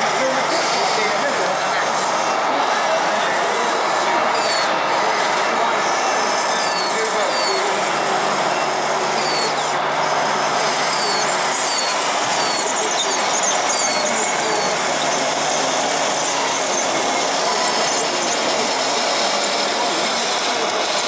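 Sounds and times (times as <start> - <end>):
model loader tracks running: 0.0 - 21.0.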